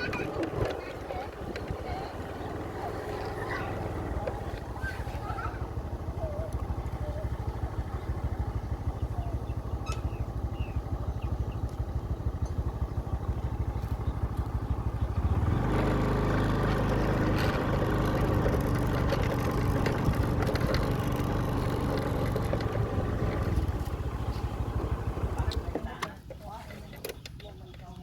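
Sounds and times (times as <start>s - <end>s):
small engine running: 0.0s - 26.1s.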